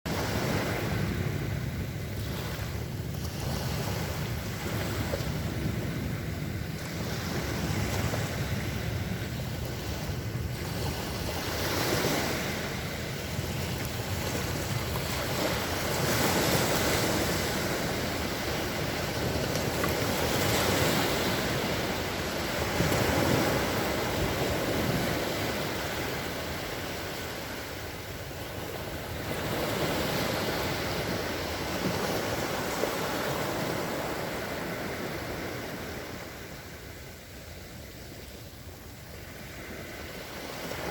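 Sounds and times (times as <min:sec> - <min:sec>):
sea waves washing onto shore: 0:00.1 - 0:40.9
wind noise on microphone: 0:00.1 - 0:40.9.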